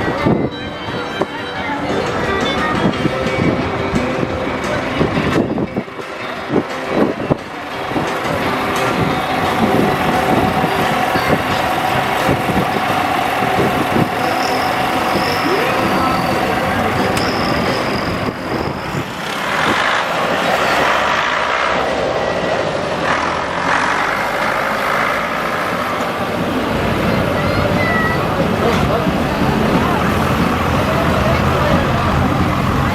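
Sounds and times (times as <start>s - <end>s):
diesel engines running: 0.0s - 32.9s.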